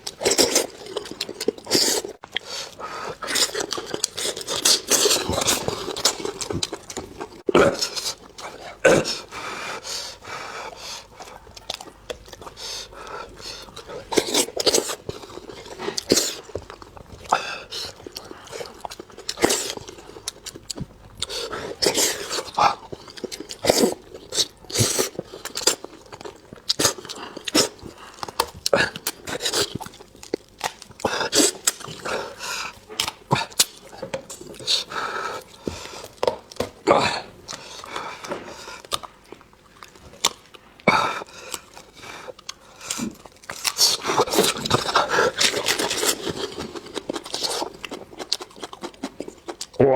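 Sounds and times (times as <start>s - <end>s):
chewing crunchy food: 0.0s - 49.8s.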